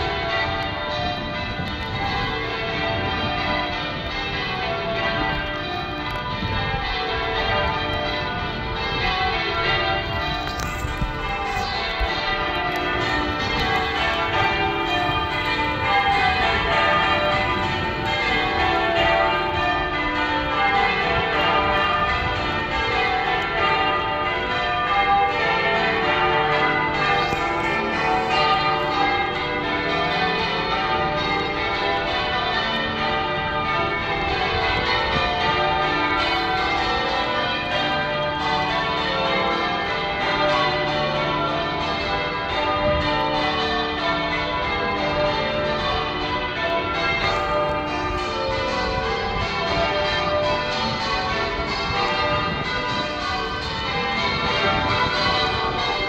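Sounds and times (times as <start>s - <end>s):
church bells ringing changes: 0.0s - 56.0s.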